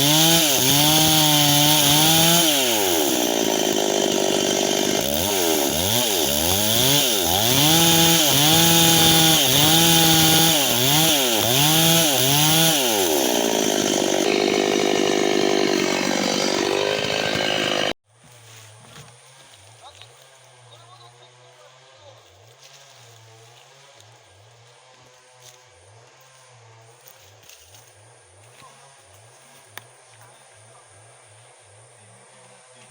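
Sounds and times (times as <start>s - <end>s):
chainsaw cutting timber: 0.0s - 18.0s, 20.3s - 30.6s.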